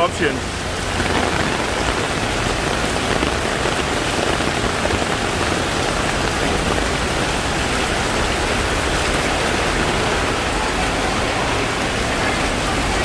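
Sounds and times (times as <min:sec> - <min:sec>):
heavy rain drumming on surfaces: 0:00.0 - 0:13.0.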